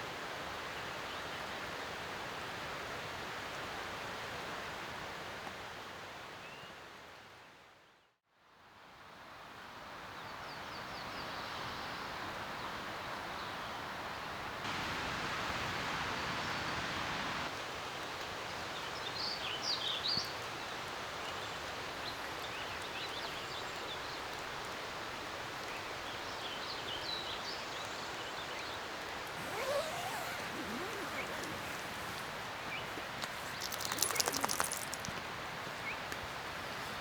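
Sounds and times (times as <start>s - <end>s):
hiss of rain or running water: 0.0s - 7.2s, 11.0s - 37.0s.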